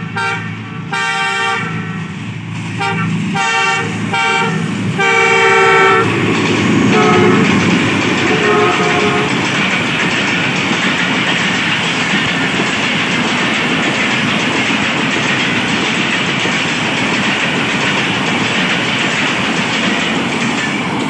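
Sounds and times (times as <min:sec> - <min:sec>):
loud rushing rumble of train: 0:00.0 - 0:21.0
train wheels clattering over rail joints: 0:01.8 - 0:21.0.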